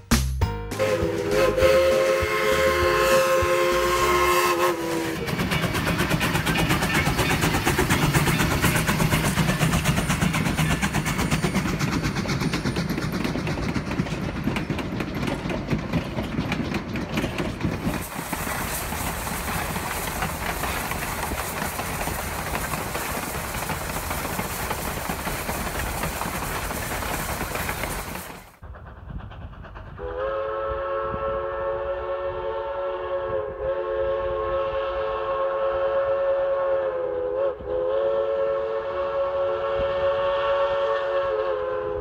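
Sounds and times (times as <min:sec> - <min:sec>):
steam locomotive exhaust beat: 0:00.1 - 0:42.0.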